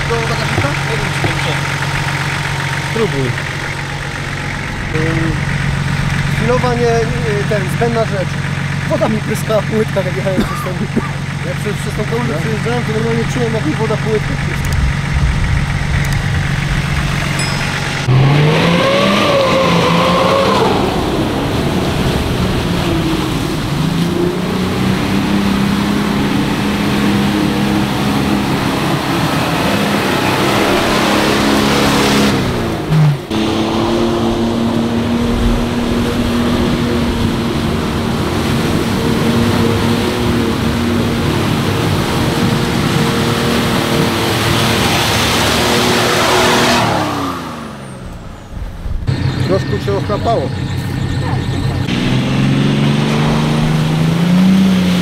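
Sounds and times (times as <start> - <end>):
off-road engine revving: 0.0 - 55.0
steady engine note: 0.0 - 55.0.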